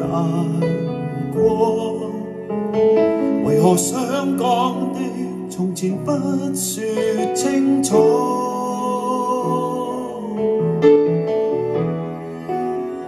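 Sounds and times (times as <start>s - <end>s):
pop ballad over loudspeakers: 0.0s - 13.0s.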